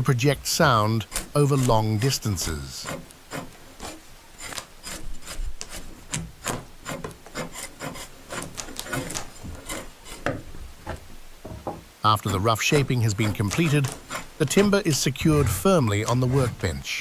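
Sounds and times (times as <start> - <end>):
hand tool shaving wood: 0.0 - 17.0.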